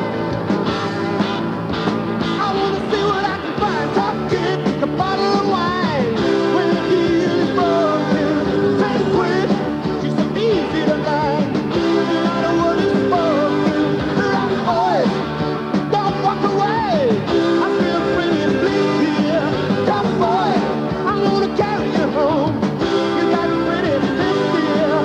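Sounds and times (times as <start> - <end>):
rock music with singing: 0.0 - 25.0.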